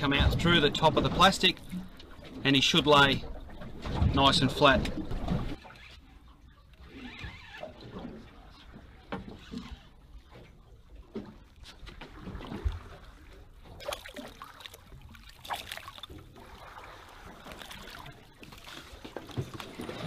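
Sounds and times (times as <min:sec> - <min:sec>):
water splashing and dripping: 0:00.0 - 0:20.0.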